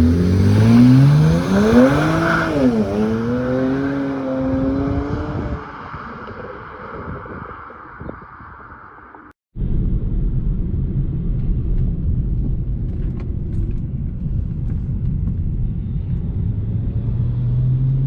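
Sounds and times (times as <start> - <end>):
road noise: 0.0 - 9.4, 10.7 - 18.0
car engine rumble: 0.0 - 18.0
low drone: 0.0 - 18.0.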